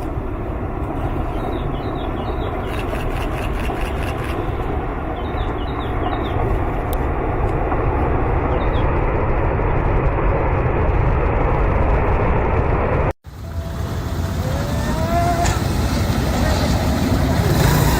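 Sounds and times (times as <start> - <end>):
loud rumbling noise: 0.0 - 17.9.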